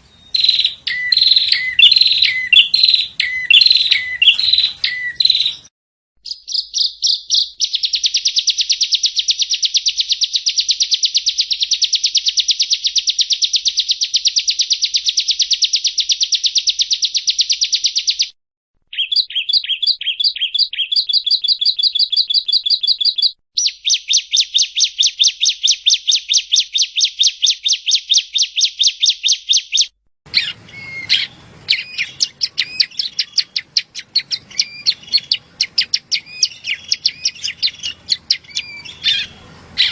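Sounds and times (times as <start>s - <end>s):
bird chirps: 0.0s - 39.9s
bird singing high trills: 0.0s - 39.9s.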